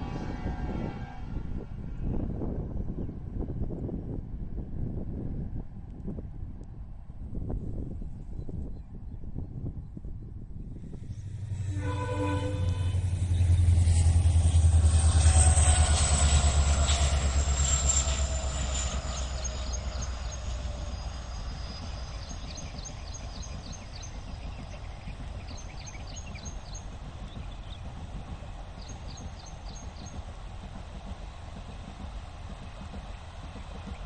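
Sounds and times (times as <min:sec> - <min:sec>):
distant train rumble: 0:00.0 - 0:08.1, 0:09.8 - 0:34.0.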